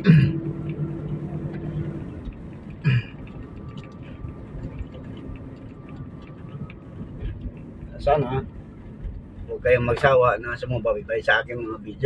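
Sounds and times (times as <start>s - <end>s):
vehicle engine drone and road rumble: 0.0s - 12.0s.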